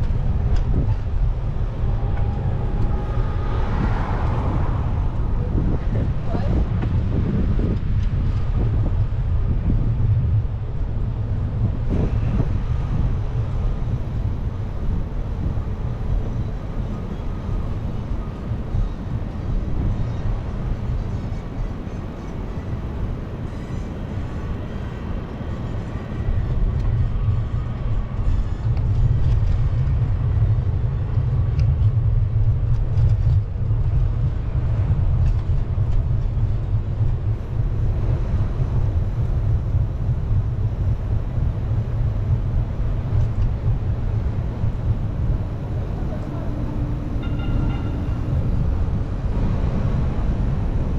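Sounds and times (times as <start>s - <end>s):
city traffic noise: 0.0s - 50.9s
wind rumble on microphone: 0.0s - 50.9s.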